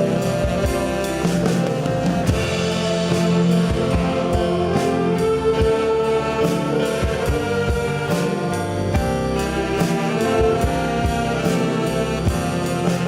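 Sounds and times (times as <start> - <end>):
drums steady beat: 0.0 - 13.0
saxophone ensemble slow ballad: 0.0 - 13.0
tenor saxophone melody: 0.0 - 13.0.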